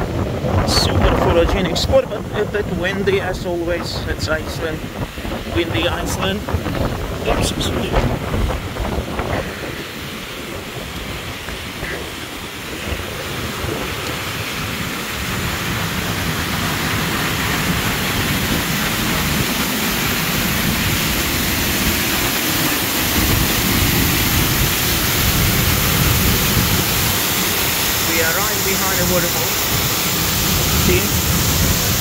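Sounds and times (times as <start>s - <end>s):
waterfall rushing: 0.0s - 32.0s
wind buffeting microphone: 0.0s - 32.0s.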